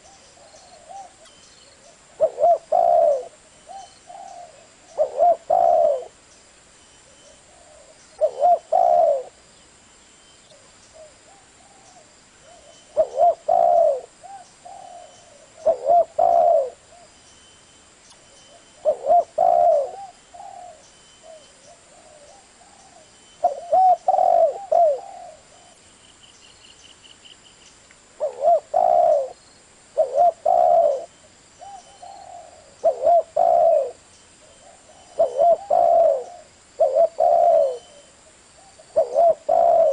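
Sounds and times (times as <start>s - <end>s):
dove cooing: 0.0s - 6.2s, 7.1s - 9.4s, 10.5s - 17.1s, 18.5s - 25.8s, 28.2s - 29.4s, 30.0s - 39.9s.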